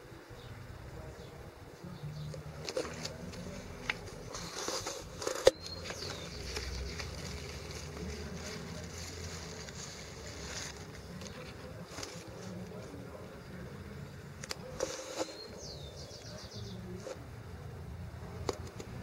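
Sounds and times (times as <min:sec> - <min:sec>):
leaves rustling against camera: 0:01.2 - 0:17.3.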